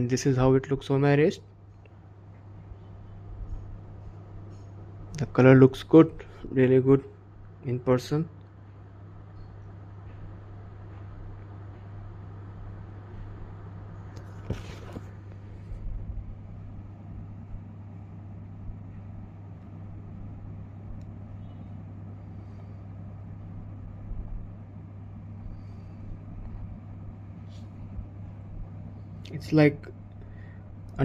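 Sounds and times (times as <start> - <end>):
steady low mechanical hum: 0.0 - 31.0.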